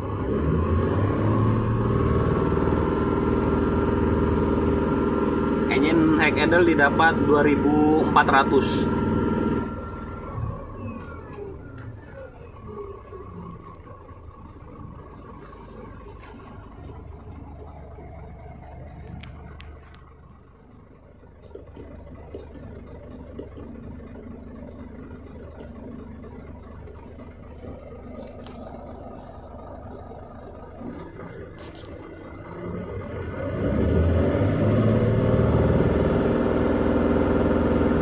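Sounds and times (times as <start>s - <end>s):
truck diesel engine idling: 0.0s - 38.0s.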